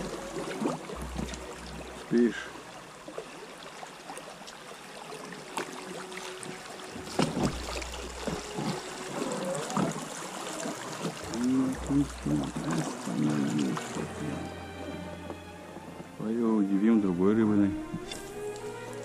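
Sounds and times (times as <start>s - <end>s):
water lapping against a boat: 0.0s - 19.0s.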